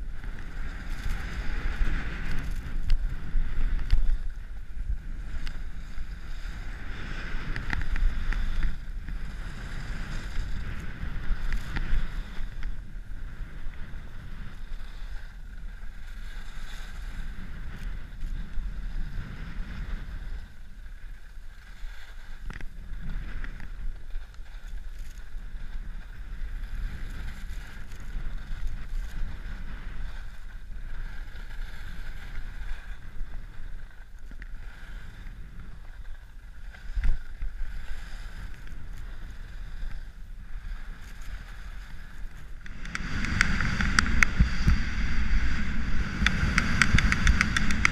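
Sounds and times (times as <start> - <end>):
skis scraping on snow: 0.0 - 47.9
wind on microphone: 0.0 - 47.9.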